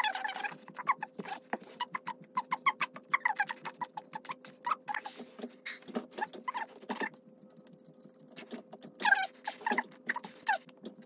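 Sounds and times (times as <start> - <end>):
high squeaky chirps and clicks: 0.0 - 11.0.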